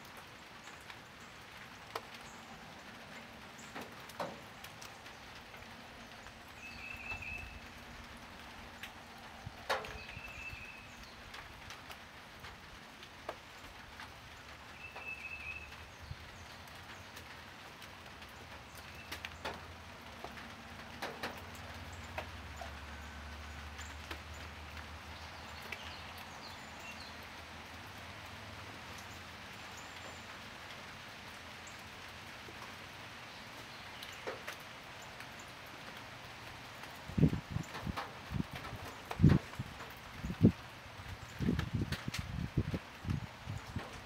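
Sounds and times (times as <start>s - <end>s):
light rain falling: 0.0s - 44.0s.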